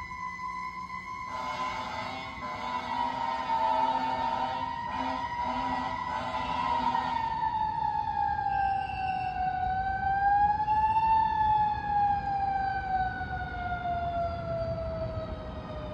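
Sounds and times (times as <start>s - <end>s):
siren slow wail: 0.0s - 15.9s.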